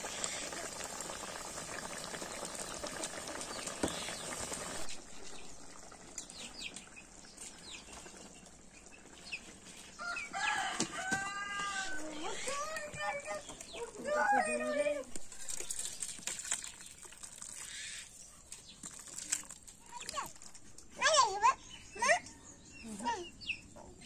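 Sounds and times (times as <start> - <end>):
curry bubbling in a pan: 0.0 - 20.6.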